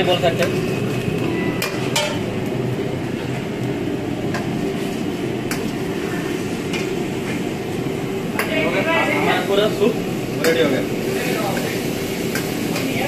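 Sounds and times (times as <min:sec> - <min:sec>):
wok burner and extraction roar: 0:00.0 - 0:13.0.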